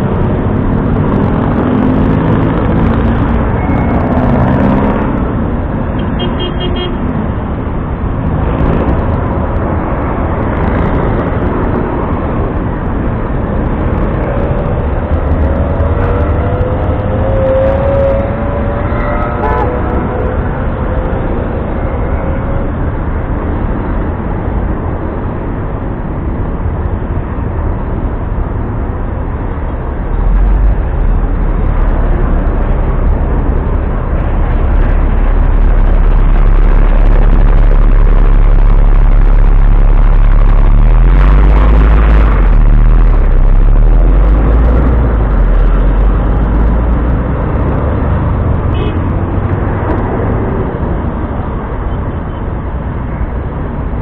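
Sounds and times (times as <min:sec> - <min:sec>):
bus engine rumble: 0:00.0 - 0:18.2, 0:18.9 - 0:54.0
heavy street traffic: 0:00.0 - 0:54.0.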